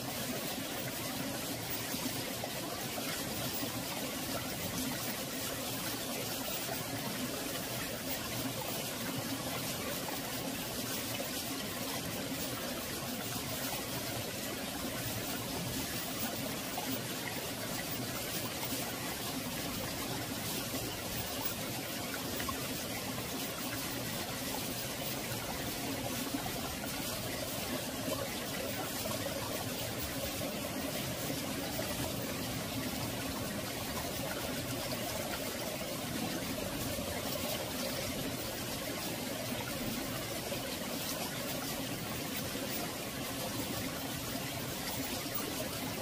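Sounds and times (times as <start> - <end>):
stream flowing: 0.0 - 46.0.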